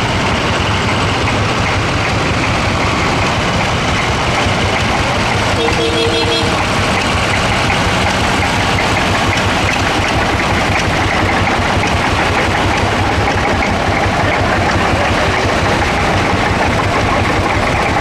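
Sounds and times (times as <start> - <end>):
tractor engines chugging: 0.0 - 18.0.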